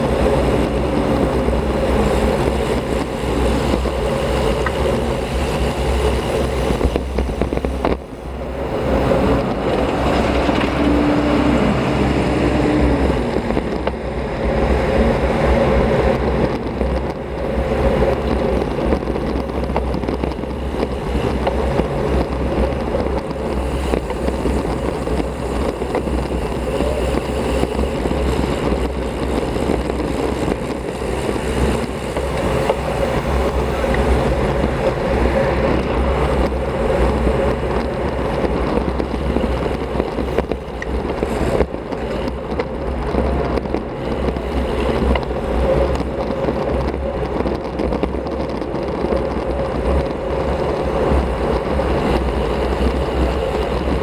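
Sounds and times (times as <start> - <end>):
bike tyres rolling: 0.0 - 54.0
wind rush: 0.0 - 54.0.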